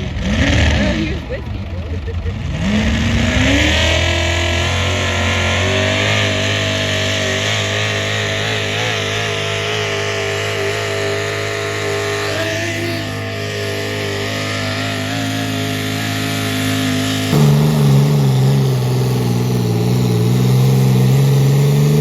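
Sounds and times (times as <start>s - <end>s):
engine at high revs: 0.0s - 22.0s.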